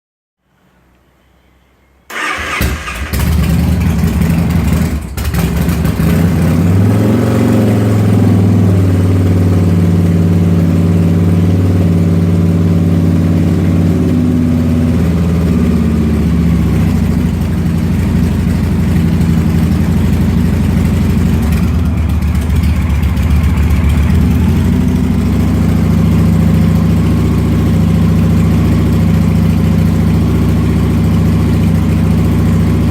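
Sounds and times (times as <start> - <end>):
motorcycle engine revving and idling: 2.2 - 32.9.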